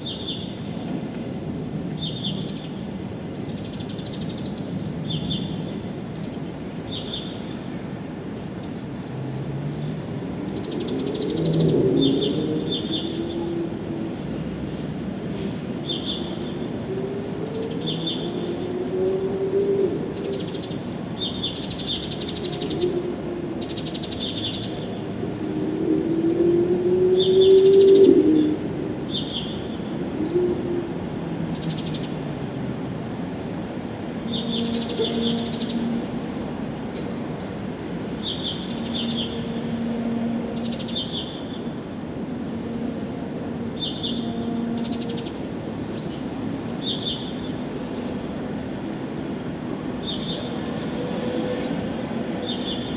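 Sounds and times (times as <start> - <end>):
birds chirping: 3.5 - 32.2, 32.8 - 48.7.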